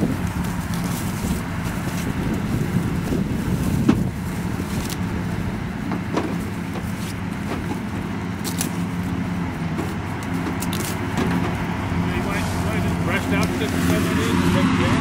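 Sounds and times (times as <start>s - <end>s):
truck engine running: 0.0s - 15.0s
wind buffeting microphone: 0.0s - 15.0s.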